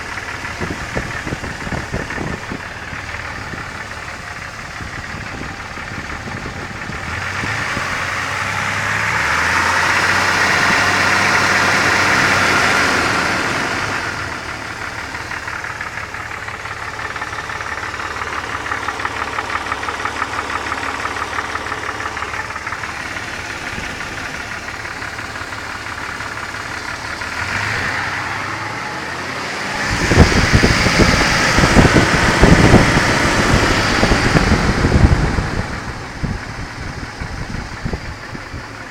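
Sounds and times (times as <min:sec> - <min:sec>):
loud rough engine clatter: 0:00.0 - 0:38.9
vehicle engine revving and idling: 0:00.0 - 0:38.9.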